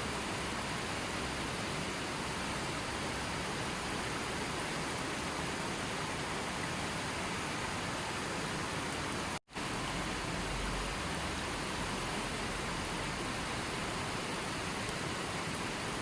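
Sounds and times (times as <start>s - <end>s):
rushing water hiss: 0.0s - 16.0s.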